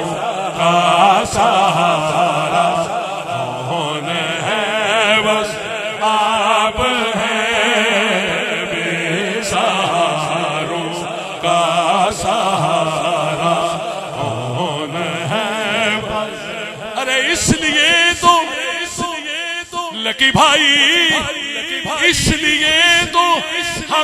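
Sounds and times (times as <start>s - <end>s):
men chanting devotional melody: 0.0s - 24.0s.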